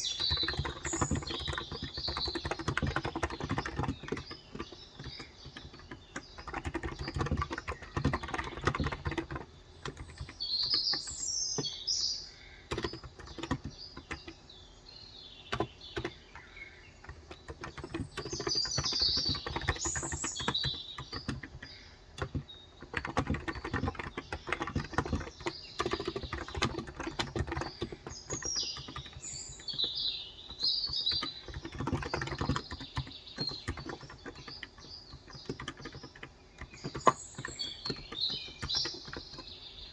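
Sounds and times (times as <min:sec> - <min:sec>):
typing on keyboard: 0:00.0 - 0:12.0, 0:12.7 - 0:14.6, 0:15.4 - 0:39.9
birds chirping: 0:00.0 - 0:39.9.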